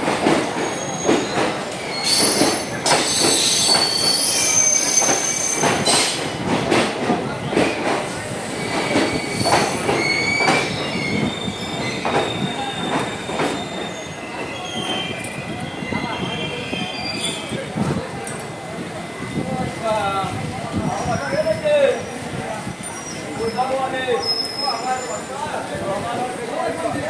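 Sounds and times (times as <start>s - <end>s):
train wheels squealing on rails: 0.0s - 20.2s, 20.8s - 27.0s
train clattering and clanking: 0.0s - 27.0s.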